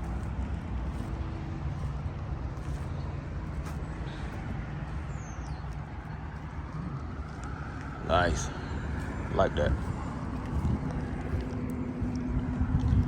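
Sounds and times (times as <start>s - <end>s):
vehicle running rumble: 0.0s - 13.0s.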